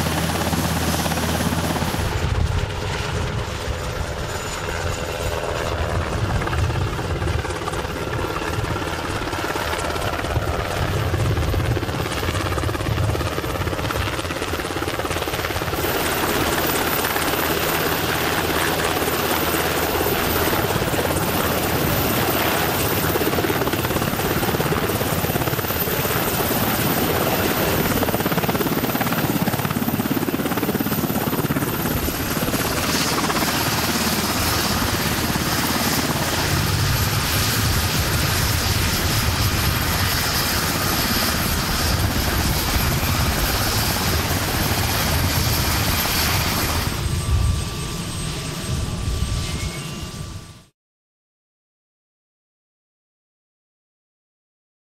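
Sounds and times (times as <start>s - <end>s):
helicopter rotor and turbine: 0.0s - 50.8s.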